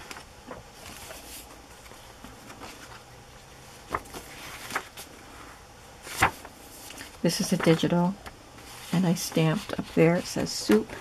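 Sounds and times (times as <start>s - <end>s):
paper pages turning: 0.0s - 3.1s, 3.7s - 5.4s, 6.0s - 11.0s.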